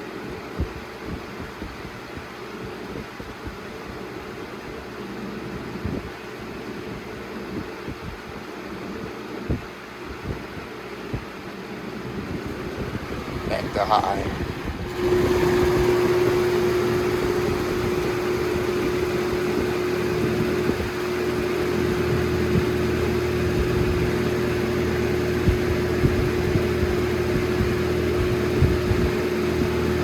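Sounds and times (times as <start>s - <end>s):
box fan running: 0.0s - 30.0s
fan hum: 0.0s - 30.0s.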